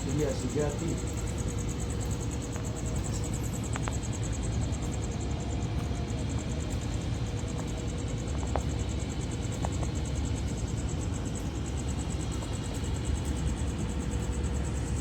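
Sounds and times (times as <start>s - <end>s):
engines and machinery rumbling: 0.0s - 15.0s
faint constant hum: 0.0s - 15.0s.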